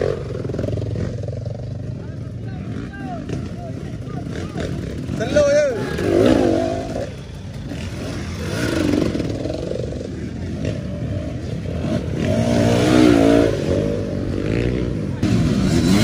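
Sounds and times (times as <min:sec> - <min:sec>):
motorbike engine revving: 0:00.0 - 0:01.9, 0:02.6 - 0:16.0.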